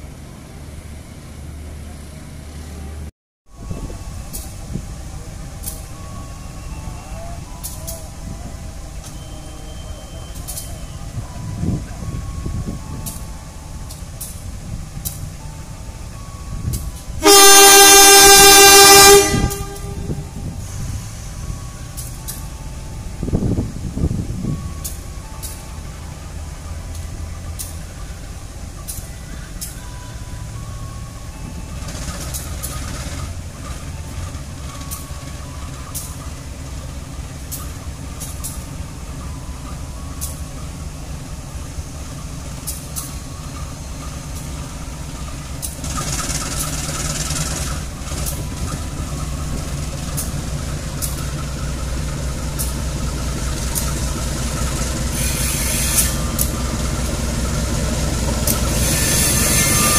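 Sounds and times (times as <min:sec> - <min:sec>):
diesel locomotive engine humming: 0:00.0 - 0:59.9.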